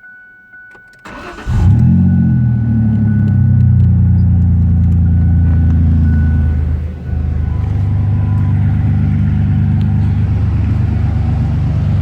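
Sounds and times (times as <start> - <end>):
engine idling with loud exhaust rumble: 1.5 - 12.0.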